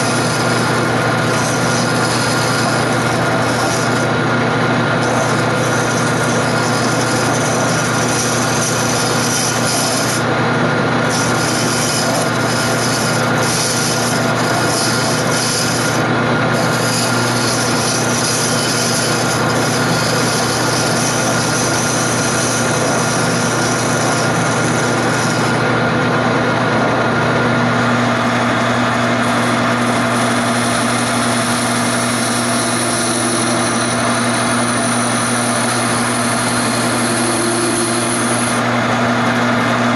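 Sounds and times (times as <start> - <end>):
lathe motor hum: 0.0 - 39.9
tool cutting spinning wood: 0.0 - 39.9.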